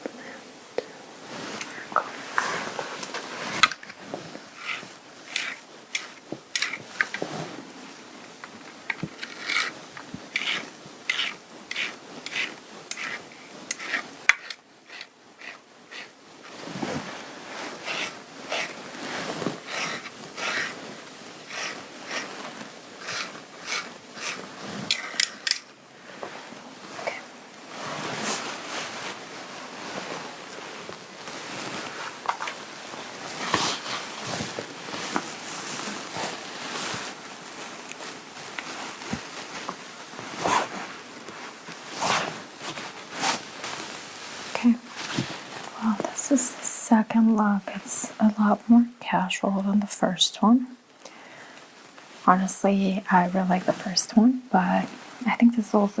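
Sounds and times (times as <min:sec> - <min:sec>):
fabric rubbing and rustling: 0:00.6 - 0:49.6, 0:50.4 - 0:56.0.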